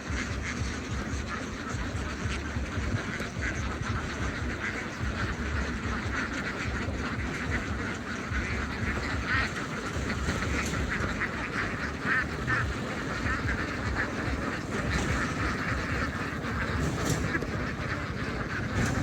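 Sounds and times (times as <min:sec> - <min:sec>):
flock of ducks quacking: 0:00.0 - 0:19.0.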